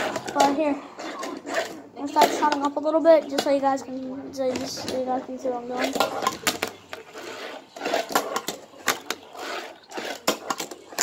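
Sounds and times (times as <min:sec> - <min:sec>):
small wheels rolling: 0:00.0 - 0:11.0.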